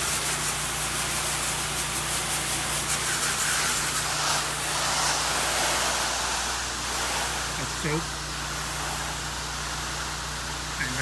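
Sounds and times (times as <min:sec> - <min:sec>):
hiss of spraying wand: 0:00.0 - 0:10.5
pressure washer engine hum: 0:00.0 - 0:11.0.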